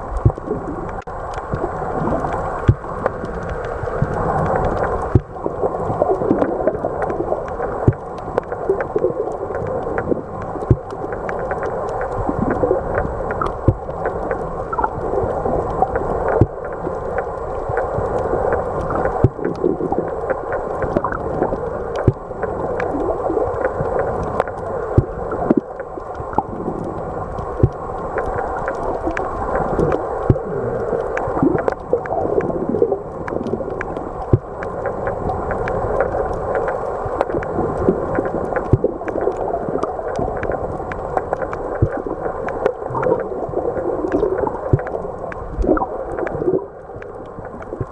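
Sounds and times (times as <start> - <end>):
muffled underwater noise: 0.0 - 47.9
sharp clicks and pops: 0.0 - 47.9.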